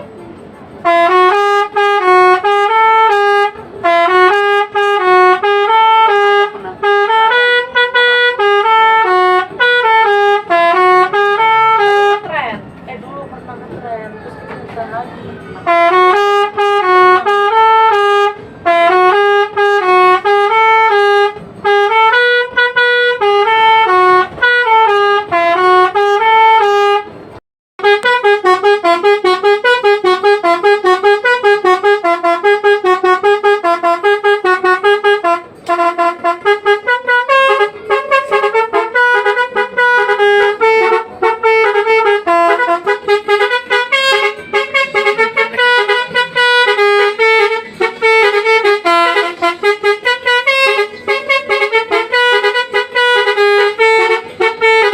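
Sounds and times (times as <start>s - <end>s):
musical bus horn melody: 0.0s - 54.9s.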